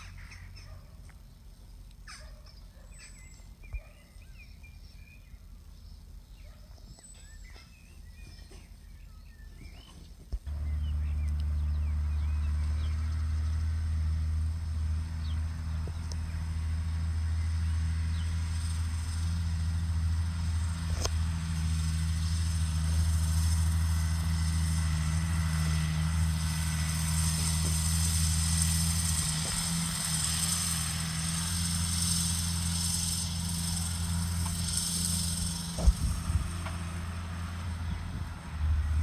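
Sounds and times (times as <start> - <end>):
tractor diesel engine droning: 0.0 - 39.0.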